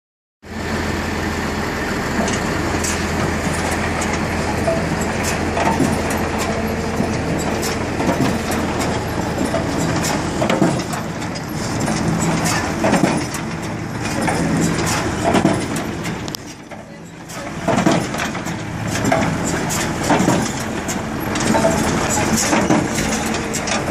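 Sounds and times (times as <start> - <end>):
low machine hum: 0.5 - 23.9
baler clattering clicks and knocks: 2.2 - 23.9.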